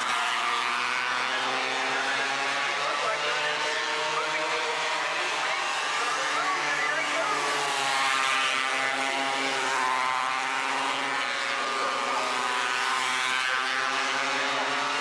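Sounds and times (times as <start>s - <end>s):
racing car engines passing: 0.0s - 15.0s.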